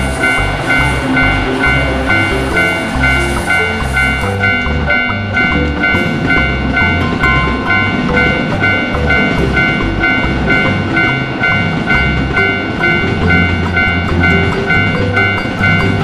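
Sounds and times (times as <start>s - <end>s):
background music with a beat: 0.0s - 16.0s
electric train passing: 0.0s - 16.0s
railroad crossing bell ringing: 0.0s - 16.0s.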